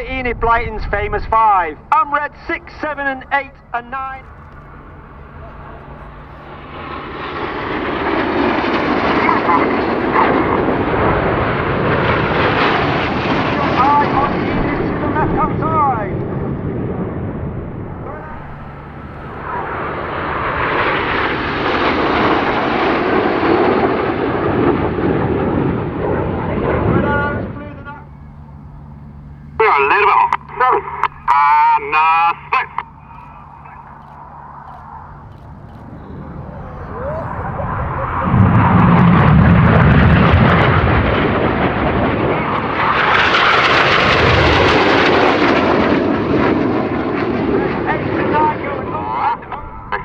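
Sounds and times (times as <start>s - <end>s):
jet aircraft flying past: 0.0s - 50.0s.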